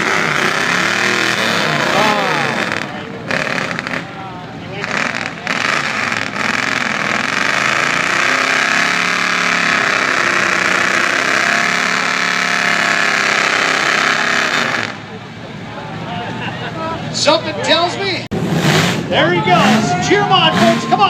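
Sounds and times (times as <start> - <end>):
pickup truck engine revving: 0.0 - 15.7, 18.3 - 21.0.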